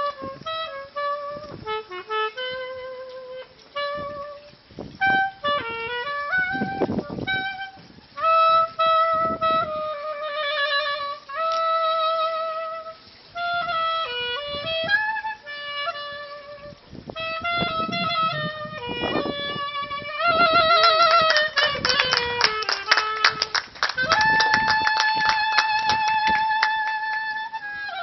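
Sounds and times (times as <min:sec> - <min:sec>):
clarinet playing slow melody: 0:00.0 - 0:28.0.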